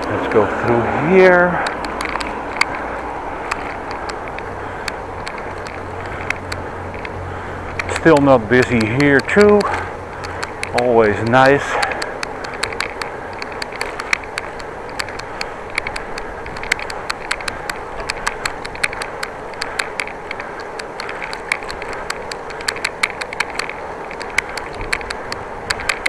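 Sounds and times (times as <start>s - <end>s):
bicycle tyre and road noise: 0.0s - 26.0s
sharp ticks and clicks: 0.0s - 26.0s.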